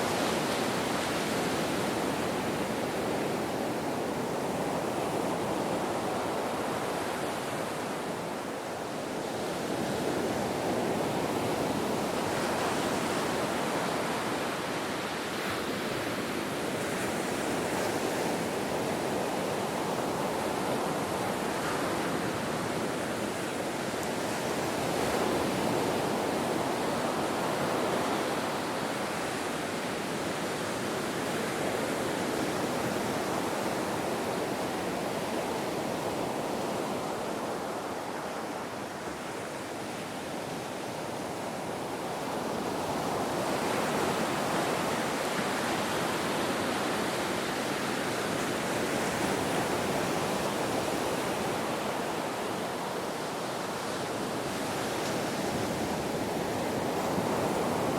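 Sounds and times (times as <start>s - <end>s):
ocean surf washing onto beach: 0.0s - 57.9s.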